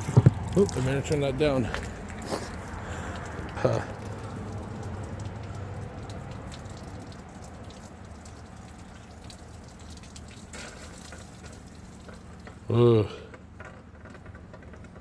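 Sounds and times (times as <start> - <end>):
water running from a tap: 0.0 - 12.5.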